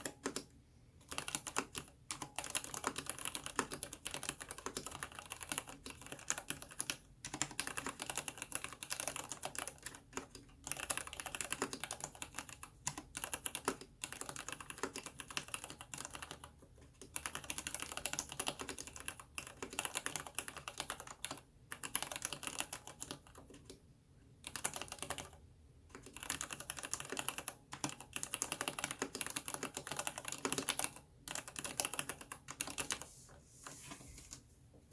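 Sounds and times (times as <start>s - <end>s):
mechanical keyboard typing: 0.0s - 23.8s, 24.4s - 33.1s.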